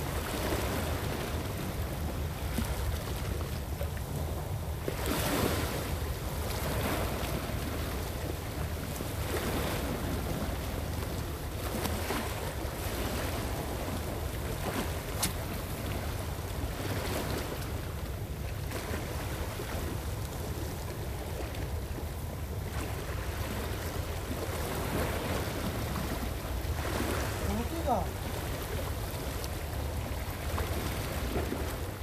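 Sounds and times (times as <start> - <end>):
waves washing against rocks: 4.9 - 32.0.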